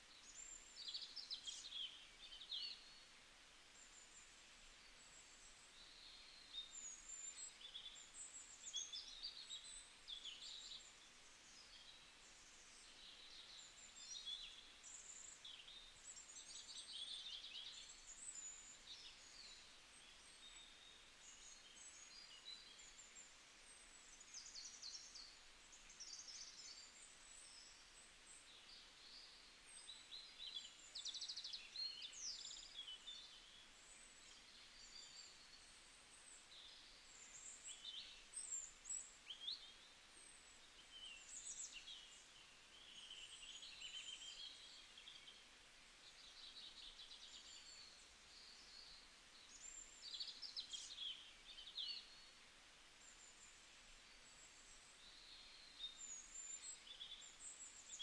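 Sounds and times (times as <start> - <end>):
background hiss: 0.0 - 58.0
small birds chirping: 0.0 - 58.0.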